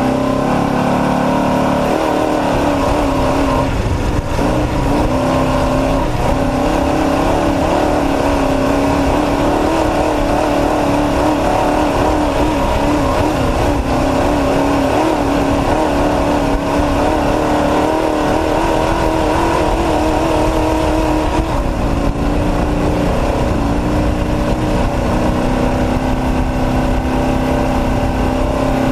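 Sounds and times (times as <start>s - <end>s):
truck engine running hard: 0.0s - 28.9s.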